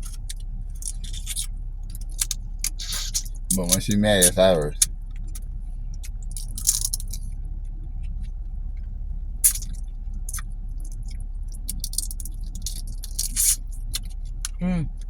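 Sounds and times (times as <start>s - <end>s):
car interior hum: 0.0s - 15.0s.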